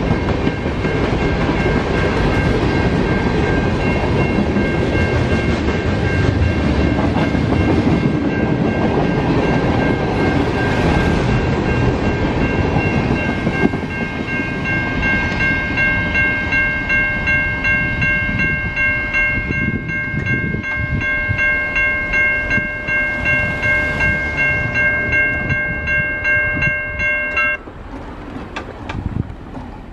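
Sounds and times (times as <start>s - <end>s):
crossing bell ringing: 0.0s - 27.6s.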